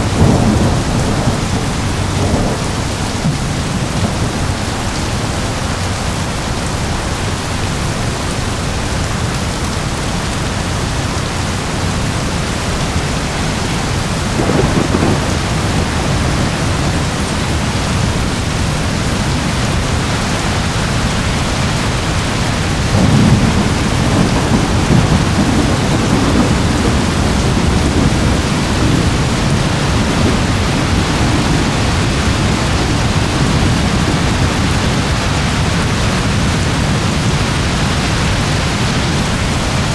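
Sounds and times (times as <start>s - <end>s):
rolling thunder: 0.0s - 7.9s, 11.4s - 39.9s
heavy rain: 0.0s - 39.9s.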